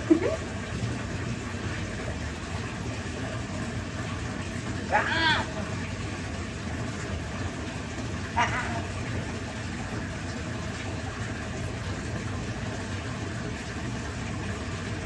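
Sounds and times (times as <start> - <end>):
tap water running: 0.0 - 15.0.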